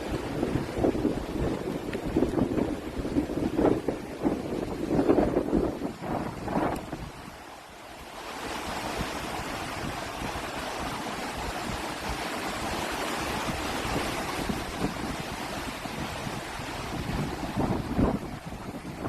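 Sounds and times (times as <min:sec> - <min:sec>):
strong wind rushing: 0:00.0 - 0:07.4, 0:08.4 - 0:19.0
wind buffeting microphone: 0:00.0 - 0:07.6, 0:08.4 - 0:19.0.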